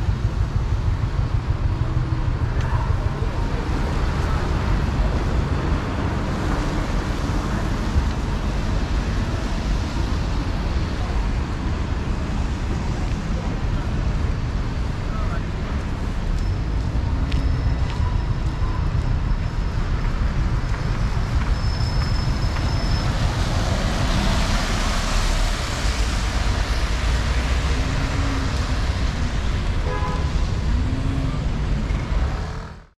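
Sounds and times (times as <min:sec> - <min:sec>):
road traffic engine rumble: 0:00.0 - 0:32.9.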